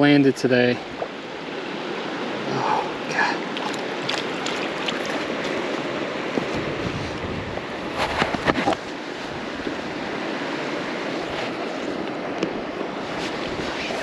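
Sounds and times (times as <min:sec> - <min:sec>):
river water rushing: 0:00.7 - 0:14.0.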